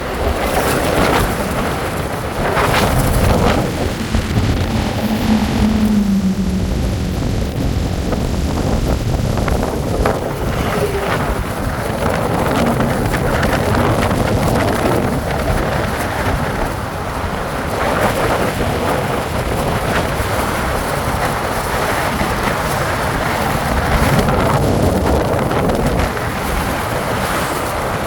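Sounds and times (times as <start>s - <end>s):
road and vehicle rumble: 0.0s - 28.0s
wind buffeting microphone: 0.0s - 28.0s.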